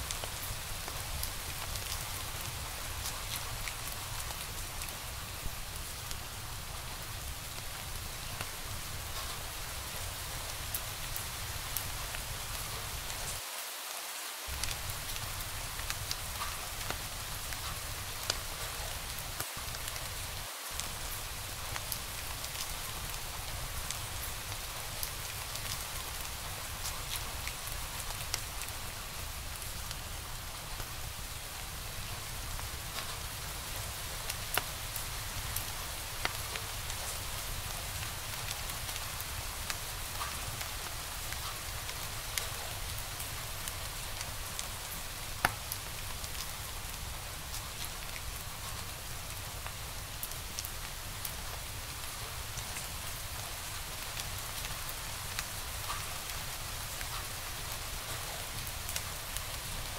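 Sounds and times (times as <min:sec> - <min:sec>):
wood fire crackling: 0:00.0 - 0:13.4, 0:14.5 - 0:59.9.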